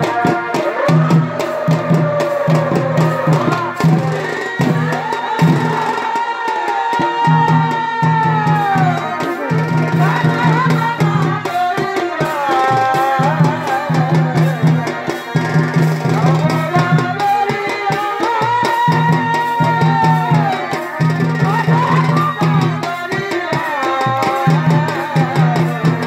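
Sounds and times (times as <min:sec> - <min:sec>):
barrel drums beating fast rhythm: 0:00.0 - 0:26.0.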